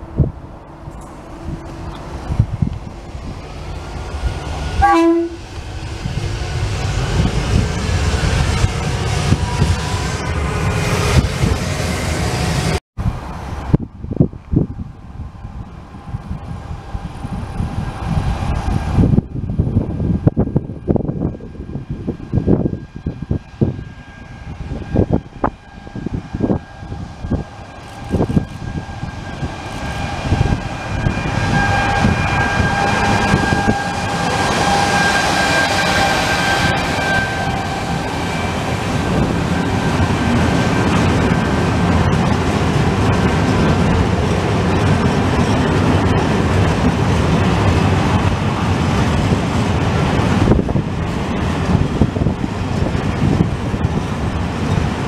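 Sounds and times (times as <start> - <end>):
freight wagons rumbling on rails: 0.0 - 55.0
locomotive whine: 0.0 - 55.0
wind buffeting microphone: 0.0 - 55.0.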